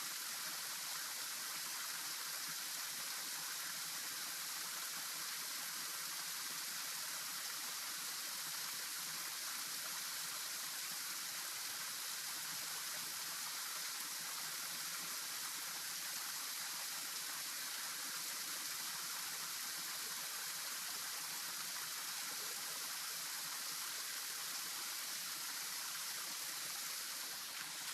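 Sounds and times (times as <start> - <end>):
stream water rushing: 0.0 - 27.9.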